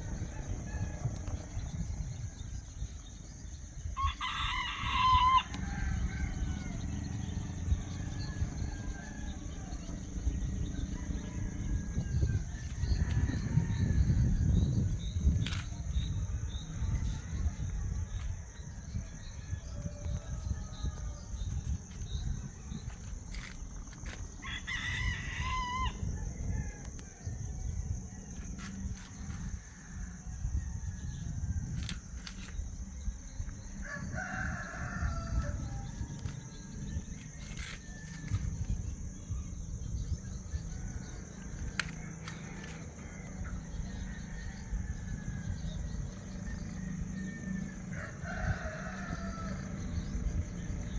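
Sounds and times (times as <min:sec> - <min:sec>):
distant roosters crowing: 0:00.0 - 0:50.9.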